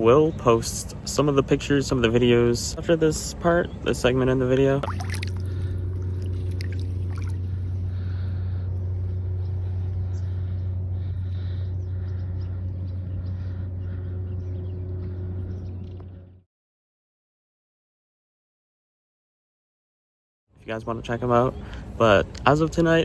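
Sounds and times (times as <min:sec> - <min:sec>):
boat engine droning: 0:00.0 - 0:16.4, 0:20.6 - 0:23.0.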